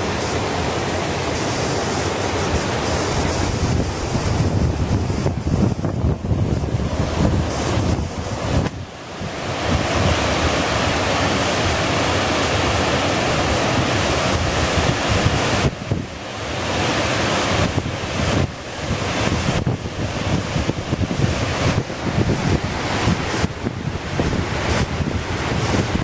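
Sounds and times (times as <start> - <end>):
water pouring over dam spillway: 0.0 - 26.0
wind buffeting microphone: 2.3 - 26.0.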